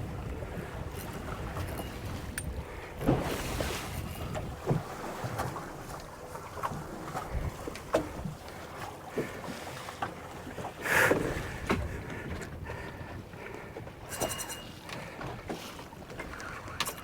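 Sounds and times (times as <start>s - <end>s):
water: 0.0s - 17.0s
wind: 0.0s - 17.0s.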